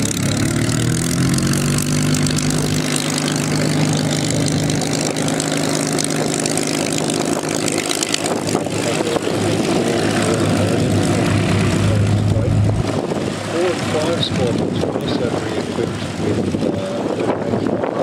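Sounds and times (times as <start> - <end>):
aircraft engine running: 0.0 - 18.0.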